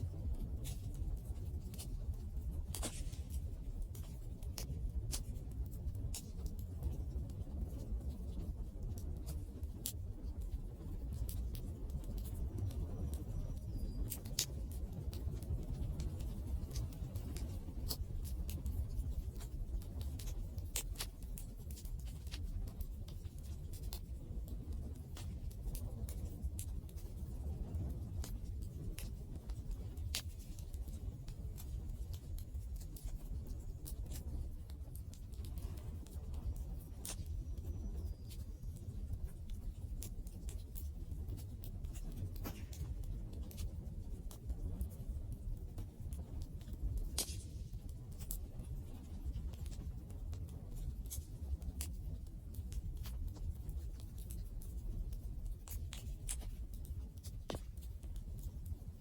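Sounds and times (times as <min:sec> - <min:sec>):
campfire crackles and pops: 0:00.0 - 0:59.0
low rumble of flames: 0:00.0 - 0:59.0.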